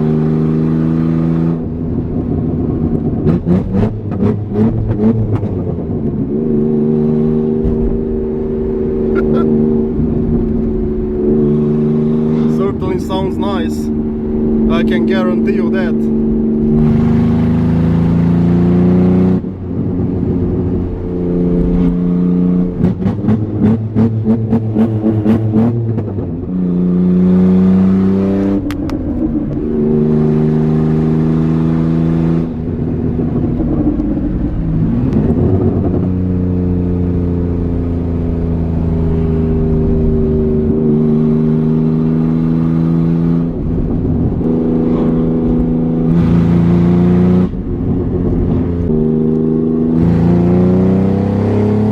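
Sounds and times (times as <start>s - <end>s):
loud raw car engine driving: 0.0s - 51.9s.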